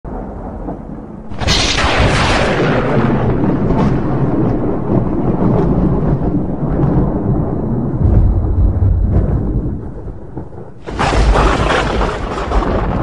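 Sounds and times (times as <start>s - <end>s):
thunder crack and rolling rumble: 0.1s - 13.0s.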